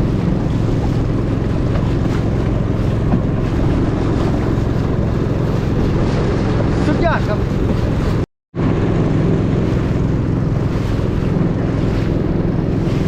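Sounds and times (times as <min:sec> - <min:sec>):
boat engine humming: 0:00.0 - 0:13.0
wind on microphone: 0:00.0 - 0:13.0.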